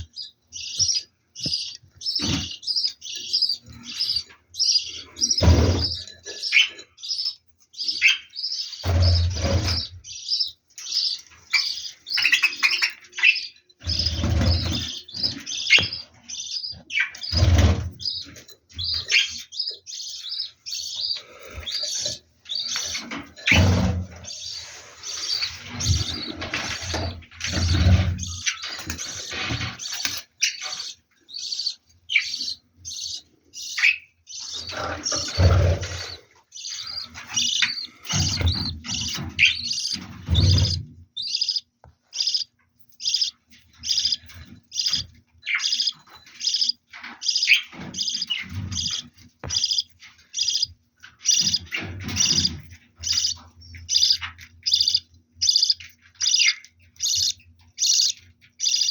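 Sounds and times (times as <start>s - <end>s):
budgerigars chirping: 0.0s - 58.9s.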